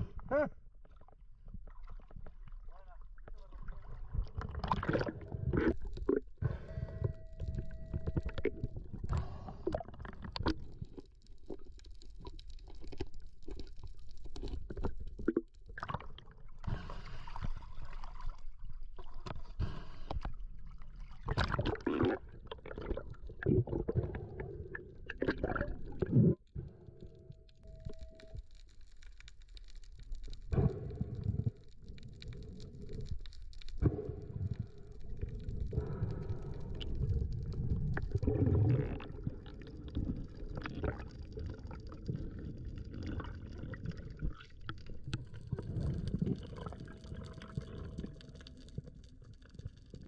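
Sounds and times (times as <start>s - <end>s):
water swishing and gurgling: 0.0s - 50.0s.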